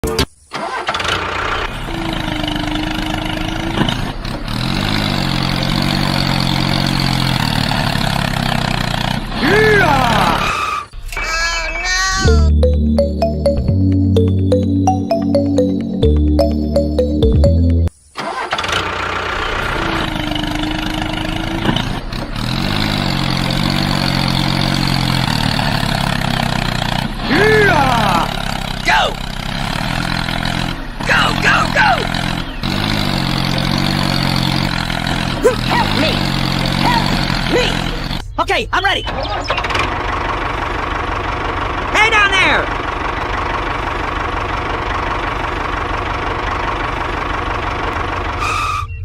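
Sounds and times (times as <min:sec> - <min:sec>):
engine idling: 0:00.5 - 0:49.0.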